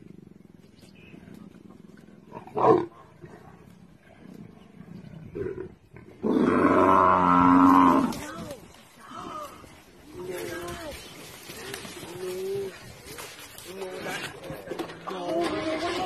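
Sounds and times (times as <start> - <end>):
lions growling: 0.0 - 8.3, 10.0 - 16.0.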